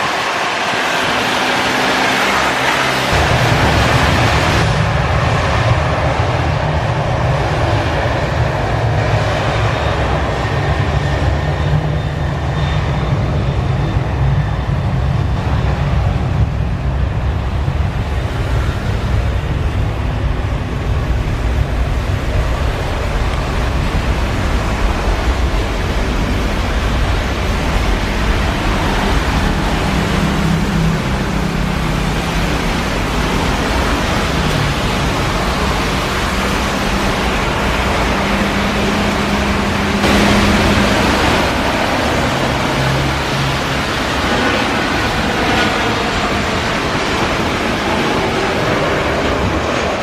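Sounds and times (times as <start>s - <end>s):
jet engine roar: 0.0s - 50.0s.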